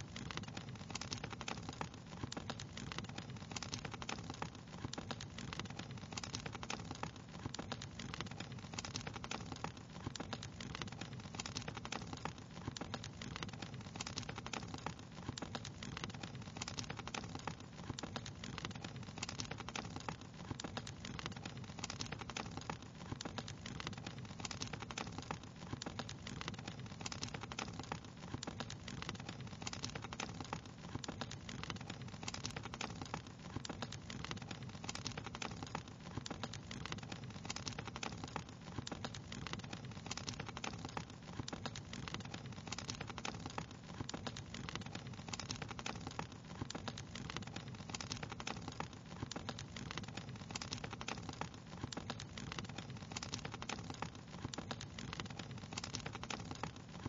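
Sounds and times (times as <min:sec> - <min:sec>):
wood fire snapping and popping: 0:00.0 - 0:57.0.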